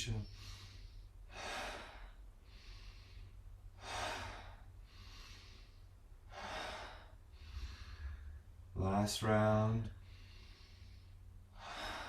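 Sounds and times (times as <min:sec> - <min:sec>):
person breathing deeply: 0:00.2 - 0:08.6, 0:09.9 - 0:12.0.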